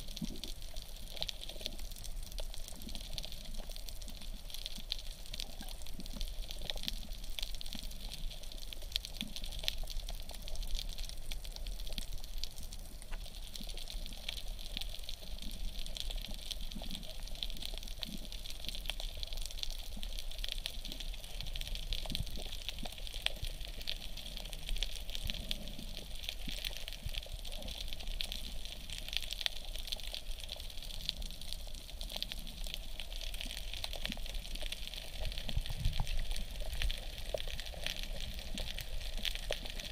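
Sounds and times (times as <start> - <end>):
crackling small clicks: 0.0 - 39.9.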